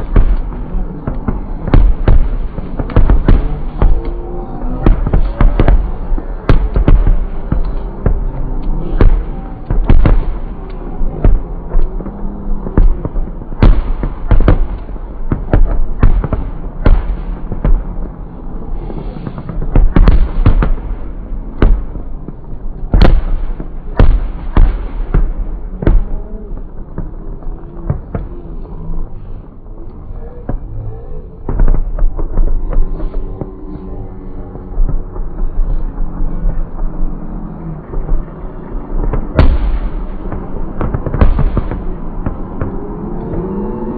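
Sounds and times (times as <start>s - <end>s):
fireworks booming and cracking: 0.0s - 43.9s.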